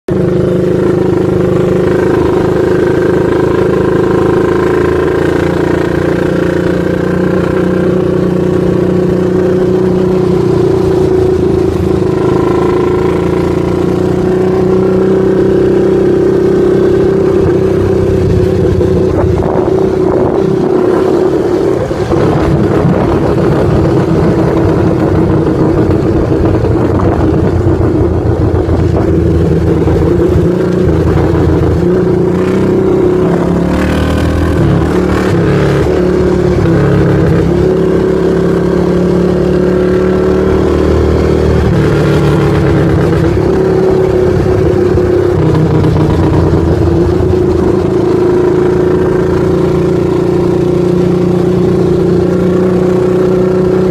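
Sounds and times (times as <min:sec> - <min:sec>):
small vehicle engine droning: 0:00.1 - 0:53.9.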